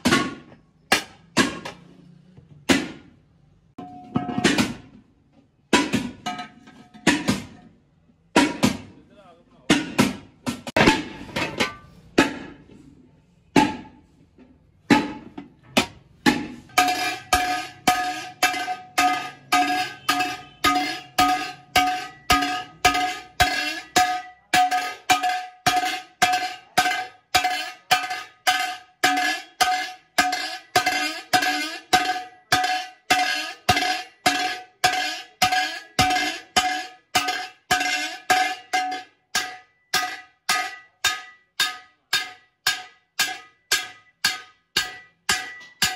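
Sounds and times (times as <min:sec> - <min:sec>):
hammer striking metal pot: 0:00.0 - 0:01.9, 0:03.8 - 0:09.0, 0:09.6 - 0:12.8, 0:13.5 - 0:14.1, 0:14.8 - 0:45.9.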